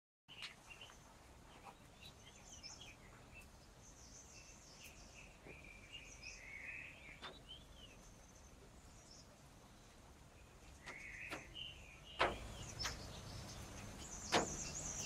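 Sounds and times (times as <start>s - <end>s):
birds chirping and whistling: 0.3s - 15.0s
low outdoor background hum: 0.3s - 15.0s.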